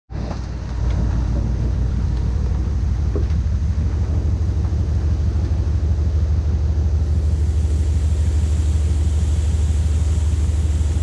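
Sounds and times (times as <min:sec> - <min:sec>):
boat engine droning: 0:00.6 - 0:11.0.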